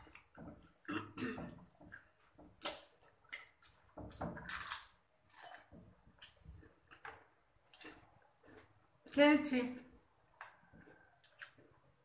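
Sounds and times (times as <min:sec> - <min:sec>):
people chewing and eating: 0:00.0 - 0:12.0.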